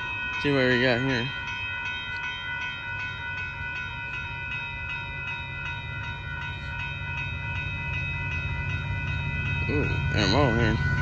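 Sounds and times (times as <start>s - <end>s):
freight train rumble: 0.0s - 11.0s
railroad crossing bell ringing: 0.0s - 11.0s.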